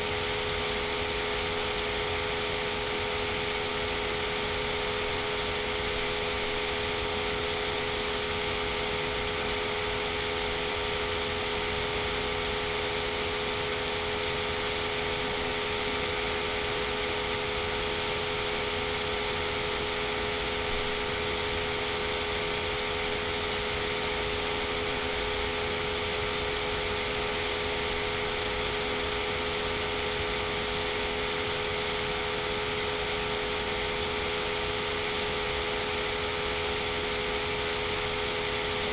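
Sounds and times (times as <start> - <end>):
computer cooling fan whirring: 0.0 - 38.9.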